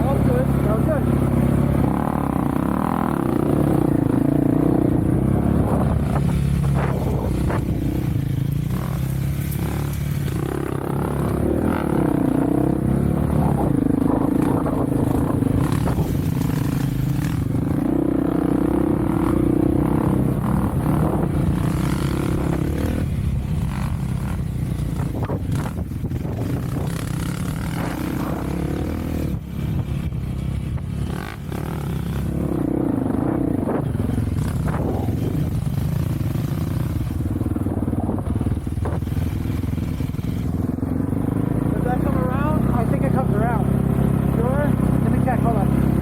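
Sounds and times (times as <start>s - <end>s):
vehicle engine revving: 0.0s - 46.0s.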